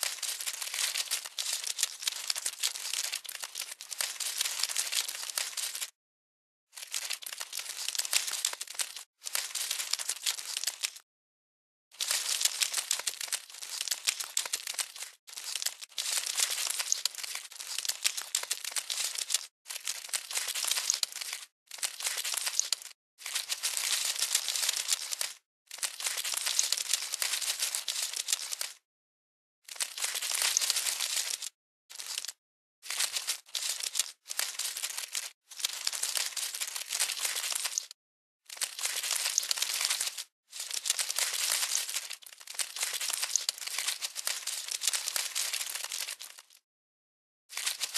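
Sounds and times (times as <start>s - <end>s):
crackly rustling and scratching: 0.0s - 6.0s, 6.8s - 11.0s, 12.0s - 28.8s, 29.7s - 46.6s, 47.5s - 47.9s.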